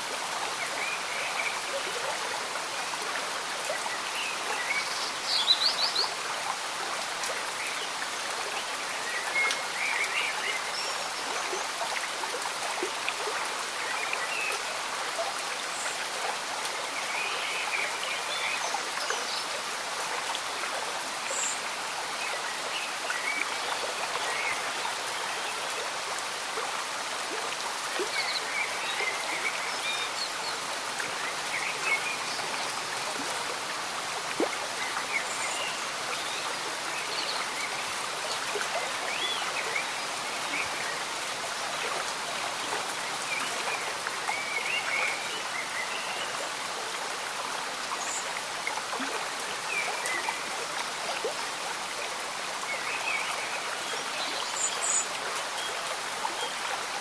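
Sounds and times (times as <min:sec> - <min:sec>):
light rain: 0:00.0 - 0:57.0.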